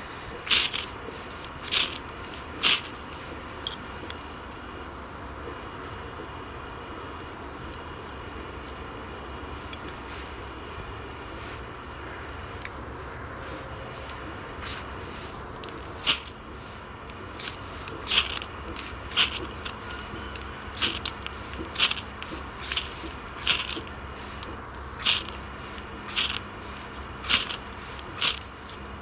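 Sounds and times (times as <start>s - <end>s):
blade scraping fire steel: 0.0s - 4.2s, 9.6s - 29.0s.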